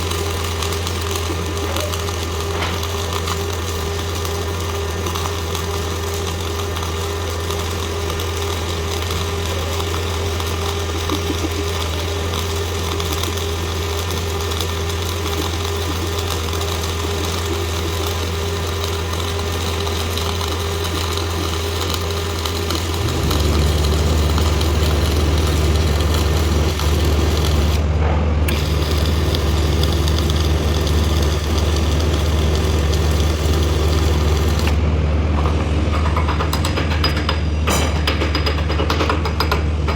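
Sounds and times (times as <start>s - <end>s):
machine hum: 0.0s - 37.7s.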